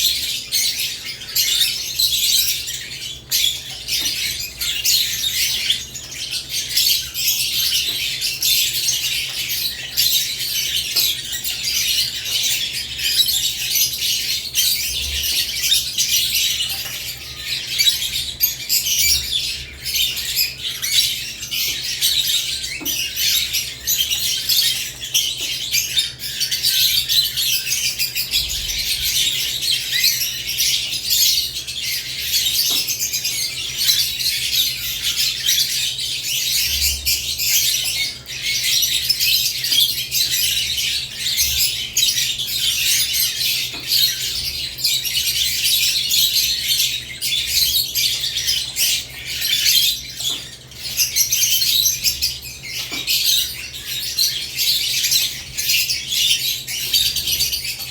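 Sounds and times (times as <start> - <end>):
lovebirds chattering: 0.0 - 57.9.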